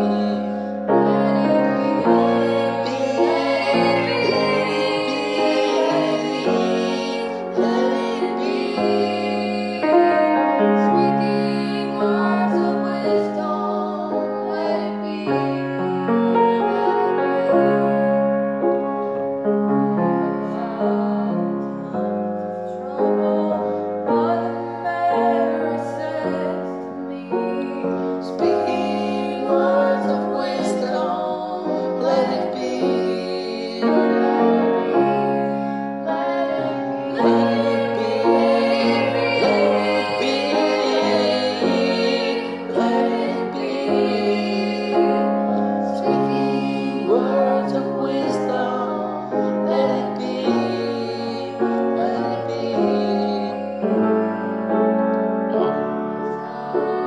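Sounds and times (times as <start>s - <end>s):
woman singing: 0.0s - 10.2s, 10.8s - 18.0s, 20.4s - 34.0s, 36.1s - 54.5s
piano chords: 0.0s - 57.0s.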